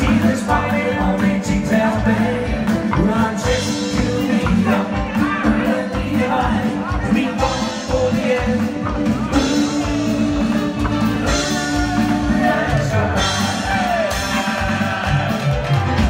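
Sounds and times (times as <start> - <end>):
band music with singer: 0.0 - 16.0
steady drum beat: 0.0 - 16.0.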